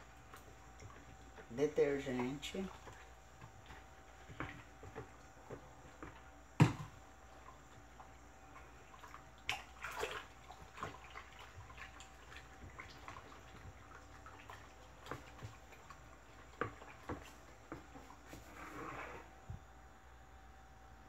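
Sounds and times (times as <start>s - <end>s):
liquid sloshing: 0.0s - 19.3s.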